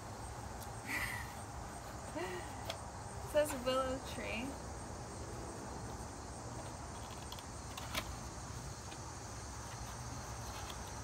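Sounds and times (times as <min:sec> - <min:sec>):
insects: 0:00.0 - 0:11.0.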